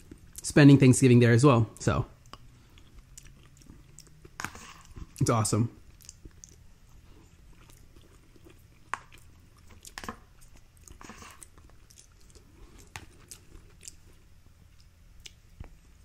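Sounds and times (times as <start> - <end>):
person chewing food: 2.2 - 15.9.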